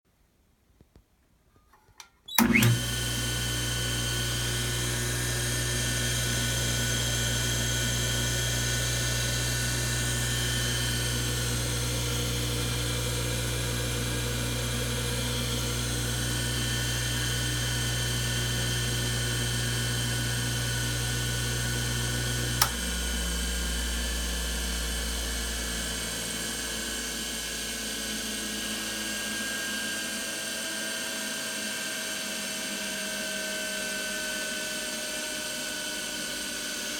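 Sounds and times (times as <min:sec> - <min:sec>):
electric motor humming and whining: 0:02.4 - 0:33.7.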